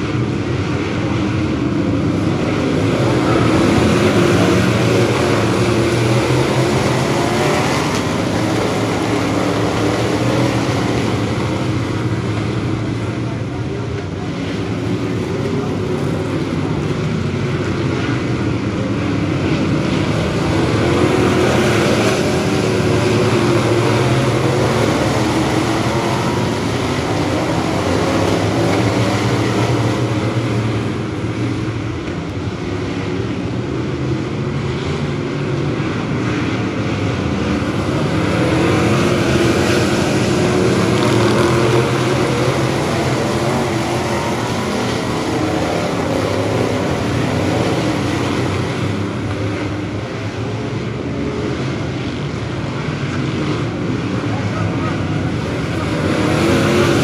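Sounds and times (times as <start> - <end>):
stock car engines racing: 0.0 - 57.0.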